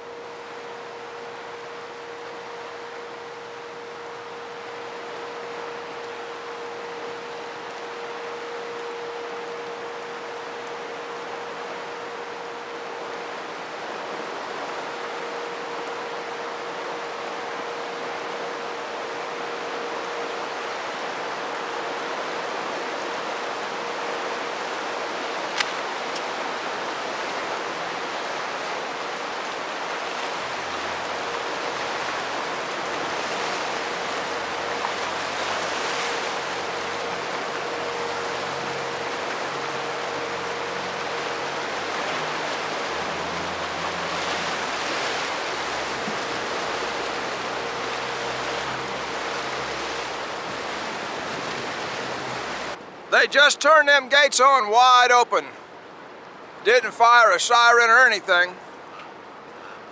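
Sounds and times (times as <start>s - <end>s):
faint steady hum: 0.0s - 59.9s
turbulent water rushing: 0.0s - 59.9s.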